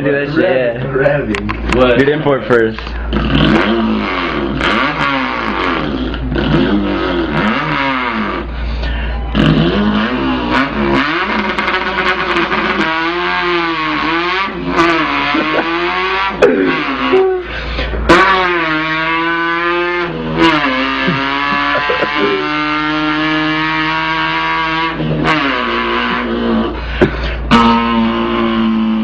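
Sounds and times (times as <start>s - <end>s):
man imitating car engine revving: 2.8s - 29.0s.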